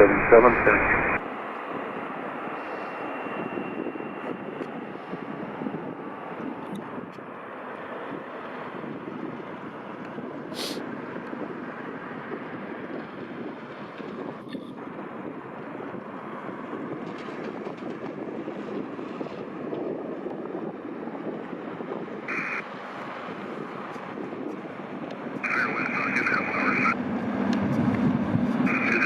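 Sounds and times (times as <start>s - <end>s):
jet engines rumbling: 0.0s - 29.0s
wind noise on microphone: 3.3s - 7.3s, 8.0s - 29.0s.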